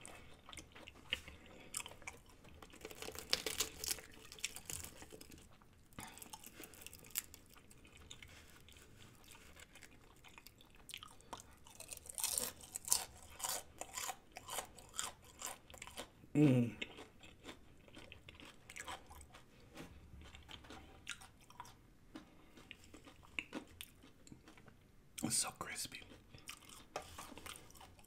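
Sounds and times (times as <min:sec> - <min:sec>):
crunching fried chicken: 0:00.0 - 0:25.3, 0:26.0 - 0:28.0.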